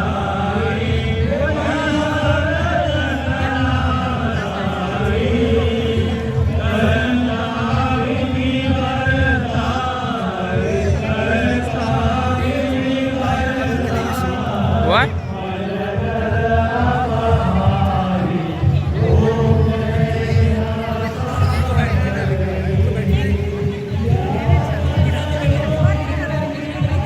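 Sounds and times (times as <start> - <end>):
music: 0.0 - 27.0
voices chanting: 0.0 - 27.0.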